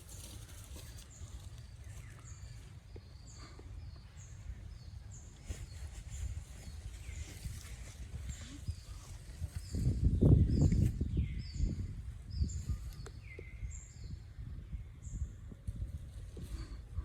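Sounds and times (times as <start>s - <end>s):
bird chirping: 0.0s - 15.6s
low wind rumble on microphone: 0.0s - 17.0s.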